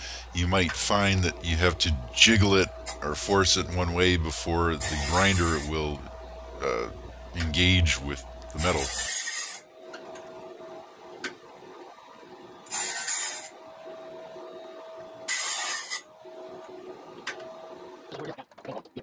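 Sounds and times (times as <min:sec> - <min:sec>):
grinding wheel hissing grind: 0:00.0 - 0:10.8, 0:11.9 - 0:16.8
sharpener motor whine: 0:00.0 - 0:18.0.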